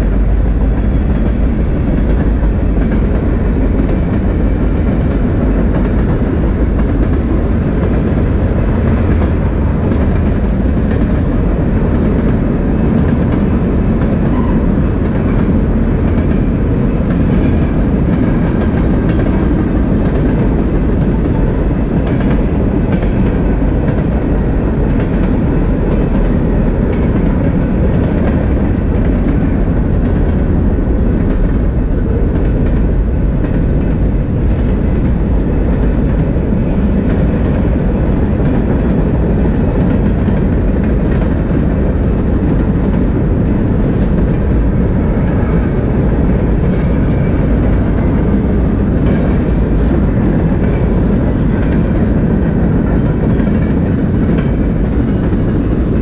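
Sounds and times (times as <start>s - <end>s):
steel train wheels on rail: 0.0s - 56.0s.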